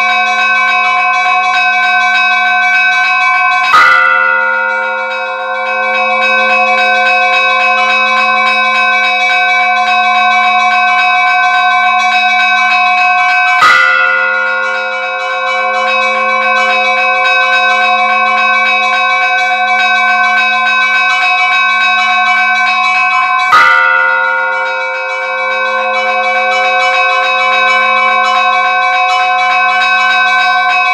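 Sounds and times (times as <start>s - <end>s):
church bells ringing: 0.0s - 30.9s
deep bell strike: 3.7s - 12.2s, 13.6s - 30.7s.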